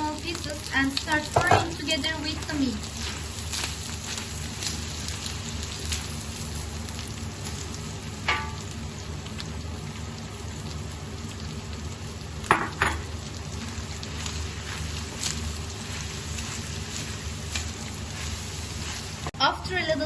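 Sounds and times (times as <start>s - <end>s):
meat and onion sizzling in oil: 0.0s - 20.0s.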